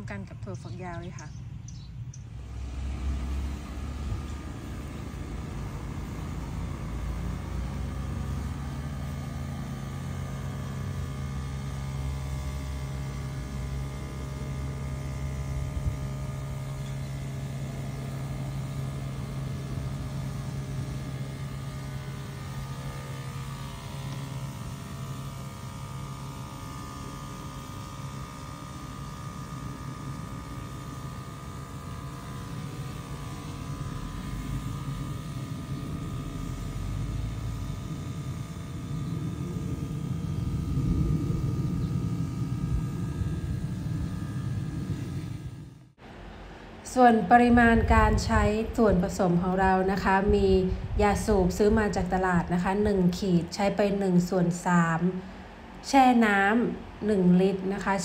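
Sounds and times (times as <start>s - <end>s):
electric sprayer pump humming: 2.1s - 58.0s.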